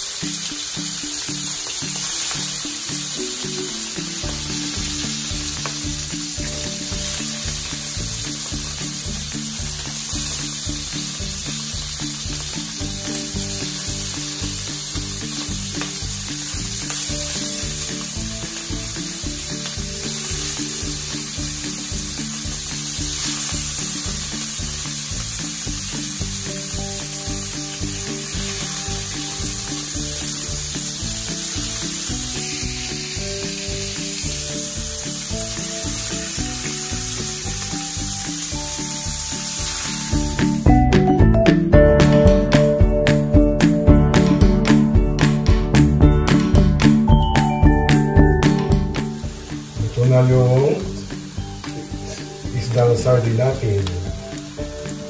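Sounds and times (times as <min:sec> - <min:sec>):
fish sizzling in hot oil: 0:00.0 - 0:40.7, 0:47.4 - 0:55.0
background music with steady beat: 0:00.0 - 0:55.0.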